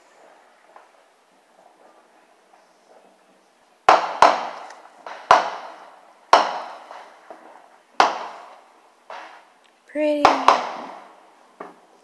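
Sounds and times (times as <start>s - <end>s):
fireworks exploding with echo: 0.0s - 12.0s.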